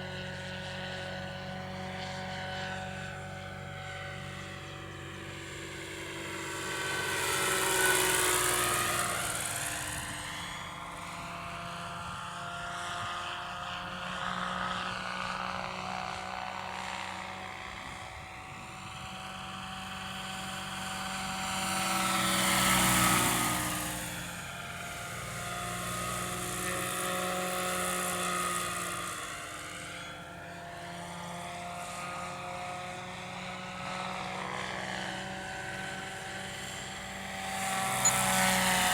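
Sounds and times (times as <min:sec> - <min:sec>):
helicopter flying past: 0:00.0 - 0:38.9.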